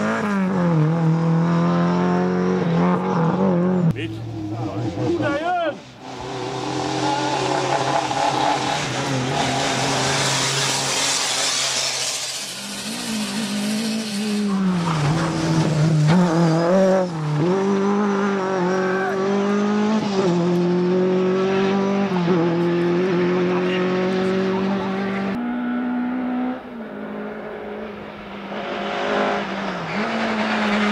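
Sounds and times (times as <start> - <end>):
rally car engine revving: 0.0 - 30.9
tyre and road noise: 0.0 - 30.9.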